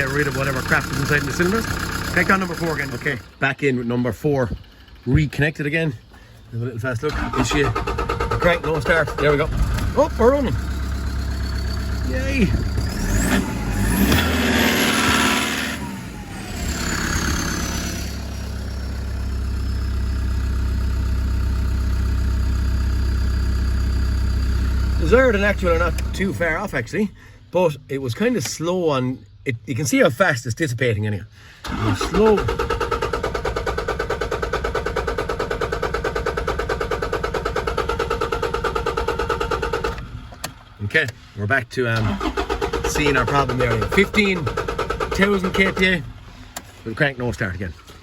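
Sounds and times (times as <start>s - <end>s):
diesel engine idling: 0.0s - 28.4s, 31.4s - 41.4s, 42.0s - 48.0s.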